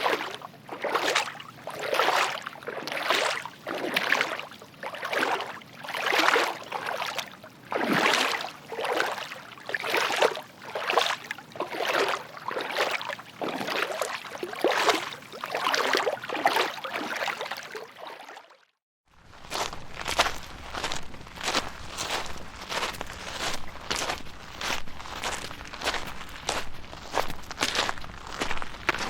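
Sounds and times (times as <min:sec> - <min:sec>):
footsteps wading through water: 0:00.0 - 0:29.0.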